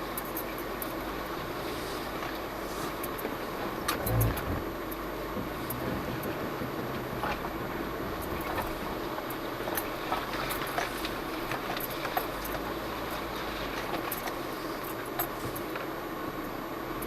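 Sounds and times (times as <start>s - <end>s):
engine and tyre noise: 0.0s - 17.0s.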